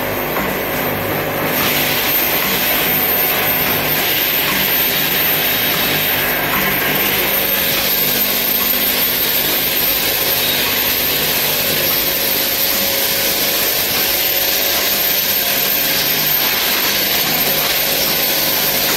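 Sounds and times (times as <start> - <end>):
machine whirring and hissing: 0.0 - 18.9.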